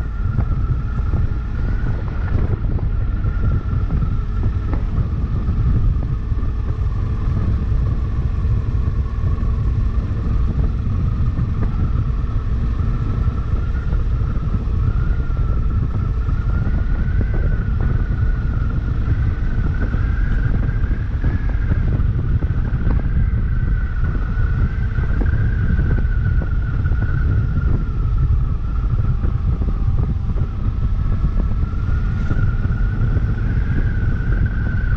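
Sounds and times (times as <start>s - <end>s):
motorcycle engine rumble: 0.0s - 34.9s
rising whine: 0.0s - 34.9s
wind noise on microphone: 0.0s - 34.9s.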